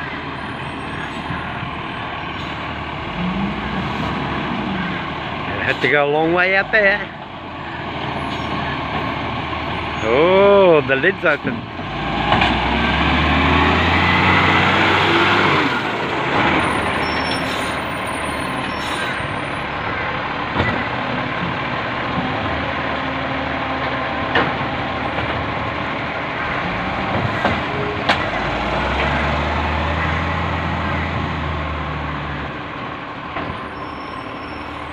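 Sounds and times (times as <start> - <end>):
garbage truck running: 0.0 - 34.9.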